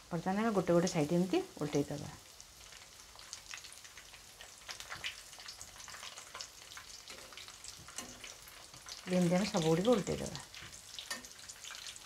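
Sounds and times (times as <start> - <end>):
food sizzling in hot oil: 0.0 - 12.0
oil crackles and pops: 1.6 - 12.0.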